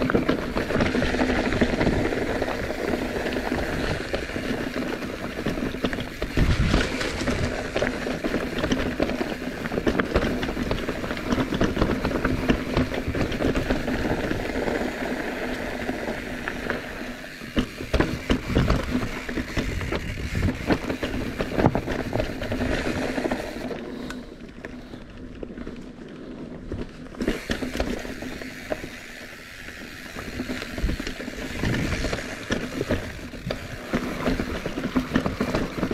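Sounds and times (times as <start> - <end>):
bicycle tyres crunching over gravel: 0.0 - 35.9
bike knocking and rattling: 0.0 - 35.9.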